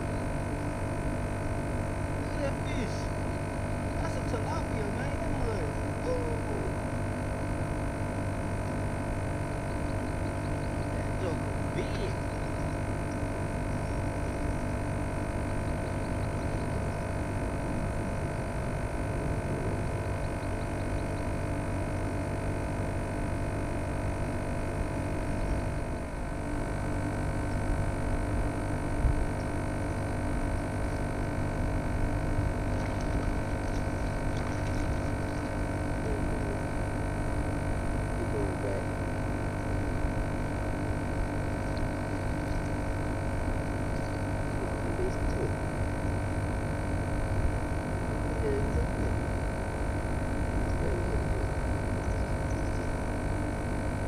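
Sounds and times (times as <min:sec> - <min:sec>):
steady hum of held tones: 0:00.0 - 0:54.0.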